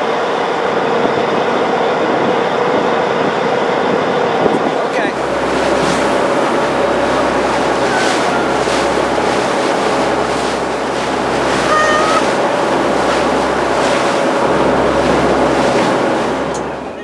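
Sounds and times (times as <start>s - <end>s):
water rushing past boat bow: 0.0s - 17.0s
wind buffeting microphone: 0.2s - 17.0s
deep rumble: 0.9s - 17.0s.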